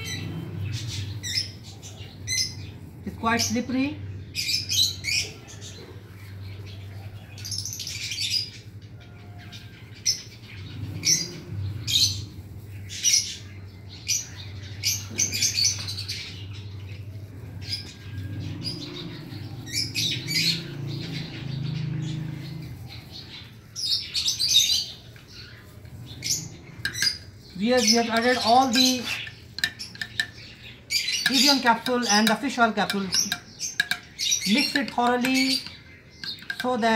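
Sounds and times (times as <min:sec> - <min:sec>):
lovebirds chirping and screeching: 0:00.0 - 0:36.9.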